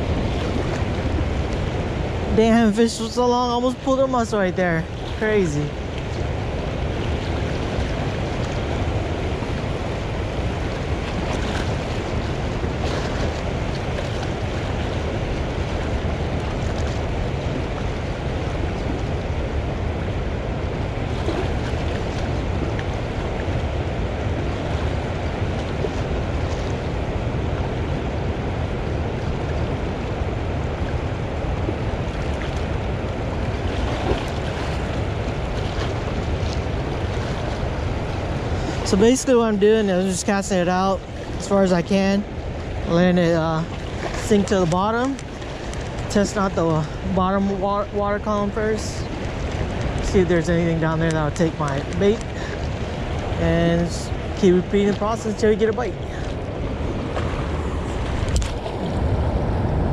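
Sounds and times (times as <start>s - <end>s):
river water rushing: 0.0s - 59.9s
wind buffeting microphone: 0.0s - 59.9s.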